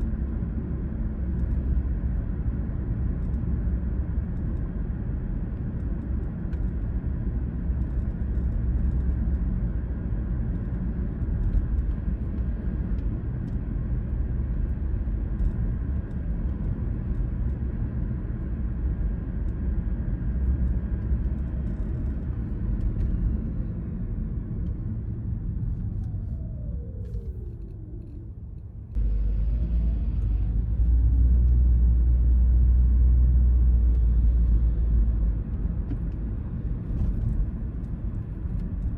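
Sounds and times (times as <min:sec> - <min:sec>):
car engine and tyre rumble: 0:00.0 - 0:38.9
loud low rumble: 0:00.0 - 0:38.9.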